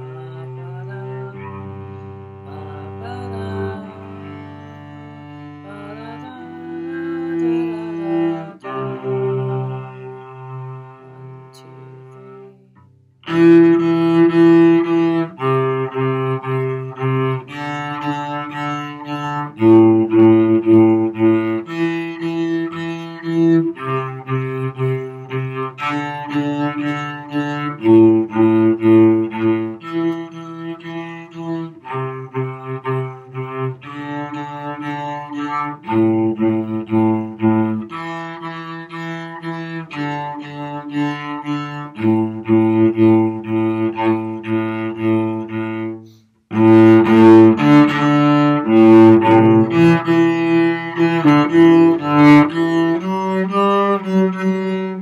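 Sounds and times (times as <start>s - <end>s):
bowed cello long notes: 0.0s - 55.0s.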